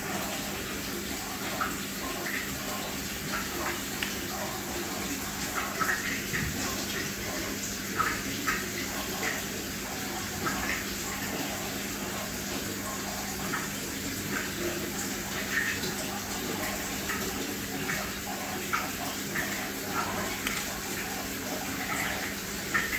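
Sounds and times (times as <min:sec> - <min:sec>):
aquarium water trickling and bubbling: 0:00.0 - 0:22.9.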